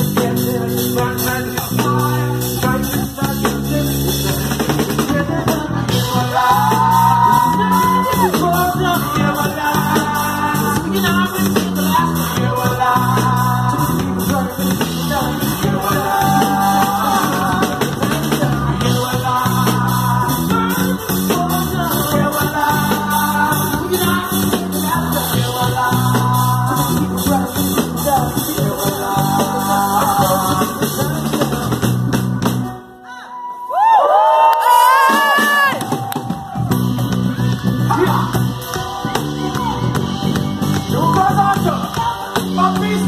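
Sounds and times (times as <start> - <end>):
regular beat: 0.0 - 32.8, 34.9 - 43.0
bass line: 0.0 - 33.0, 34.0 - 43.0
people singing: 0.0 - 33.0, 37.3 - 43.0.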